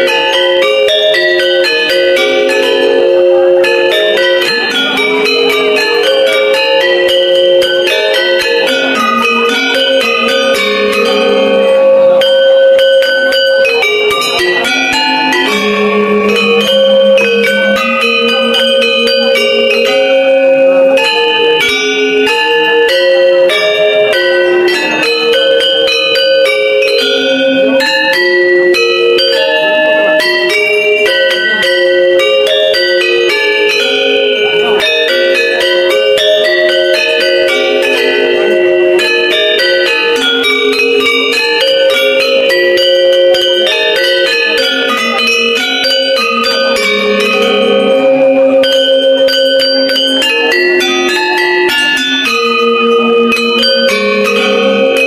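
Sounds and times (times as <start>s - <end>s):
metallophone ensemble ringing notes: 0.0s - 55.0s.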